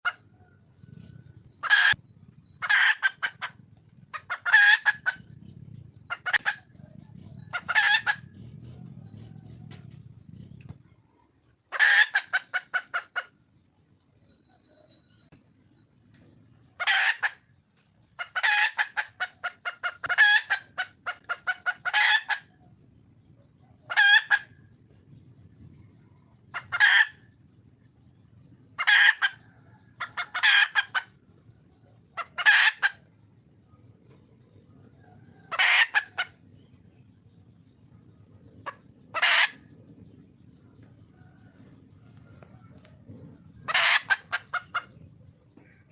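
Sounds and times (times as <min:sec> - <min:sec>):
hen clucking and calling: 0:00.0 - 0:45.9.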